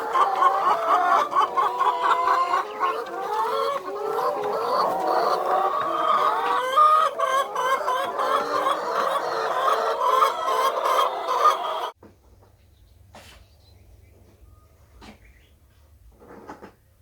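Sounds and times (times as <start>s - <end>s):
chickens clucking: 0.0s - 16.8s.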